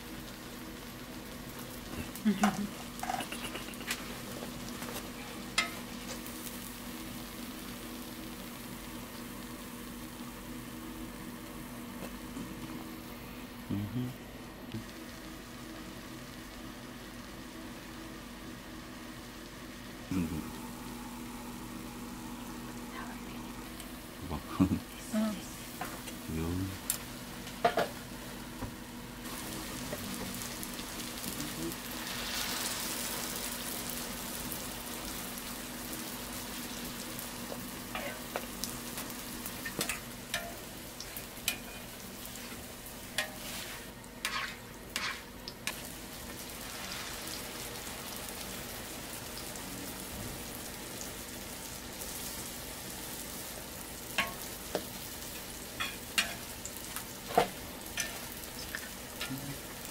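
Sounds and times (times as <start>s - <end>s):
pancakes sizzling in oil: 0.0s - 13.6s, 14.8s - 22.9s, 23.5s - 59.9s.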